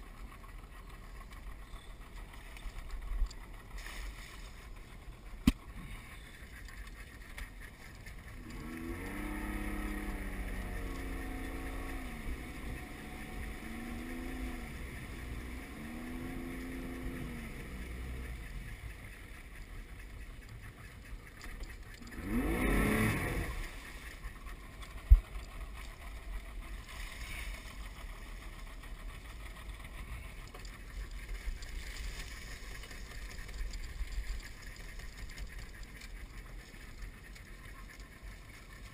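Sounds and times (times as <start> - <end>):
boat motor running: 0.0 - 38.9.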